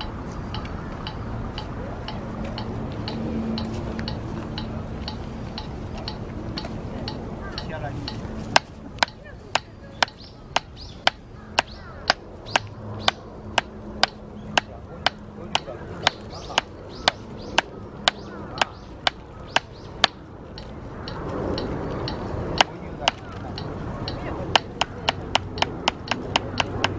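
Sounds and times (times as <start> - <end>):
drumsticks striking practice pad: 0.0 - 26.9.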